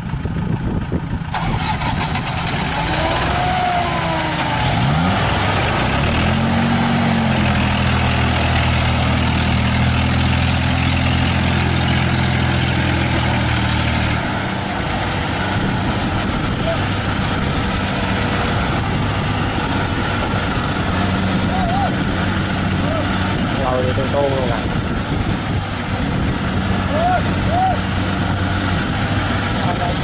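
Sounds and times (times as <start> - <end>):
heavy engines running under load: 0.0 - 30.0.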